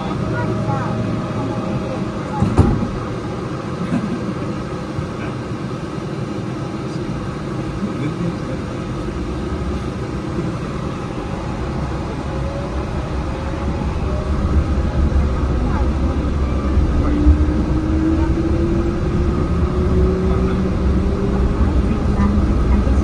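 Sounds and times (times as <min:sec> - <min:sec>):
train running on track: 0:00.0 - 0:23.0.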